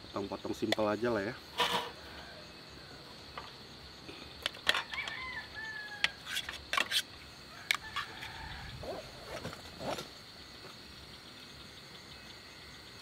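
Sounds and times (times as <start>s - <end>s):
high insect chirring: 0.0s - 13.0s.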